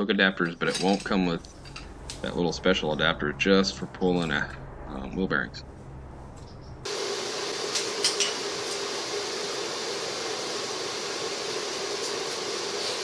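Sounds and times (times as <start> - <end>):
fan hum and hiss: 0.0 - 13.0.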